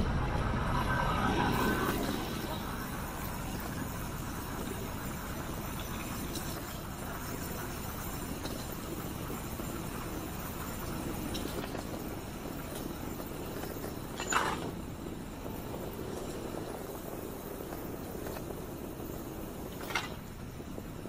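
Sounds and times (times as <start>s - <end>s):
bicycle tyres rolling on pavement: 0.0s - 21.0s.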